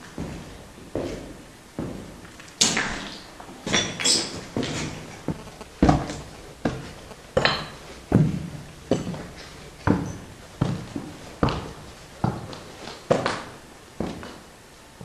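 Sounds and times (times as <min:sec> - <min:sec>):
footsteps on rubble: 0:00.2 - 0:14.4.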